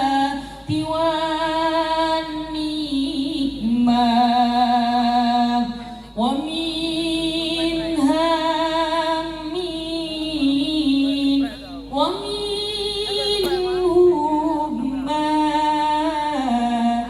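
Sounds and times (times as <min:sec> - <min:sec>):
woman singing devotional chant: 0:00.0 - 0:17.0.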